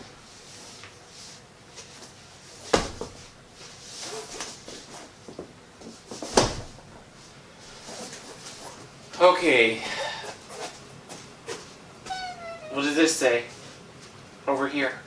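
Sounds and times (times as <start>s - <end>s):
faint room sounds: 0.0s - 15.0s.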